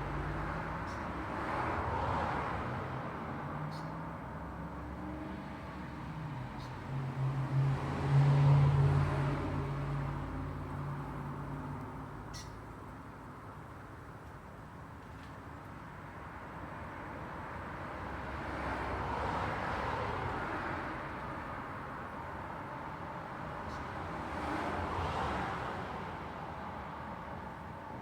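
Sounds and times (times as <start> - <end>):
road traffic noise: 0.0 - 28.0
vehicles passing: 0.0 - 28.0.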